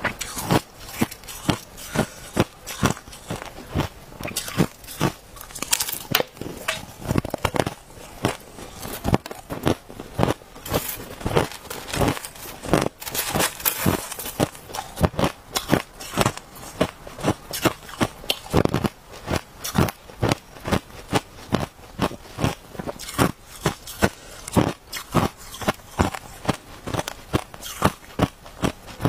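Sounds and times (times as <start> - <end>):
crushed ice being chewed: 0.0 - 29.0.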